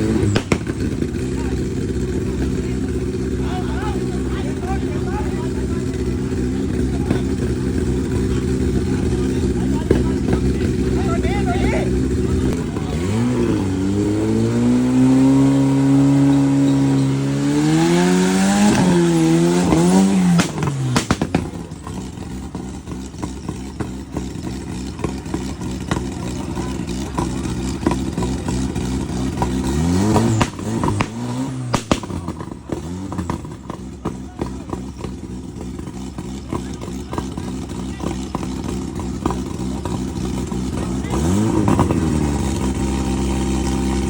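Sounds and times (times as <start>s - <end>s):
buggy engine revving: 0.0s - 44.0s.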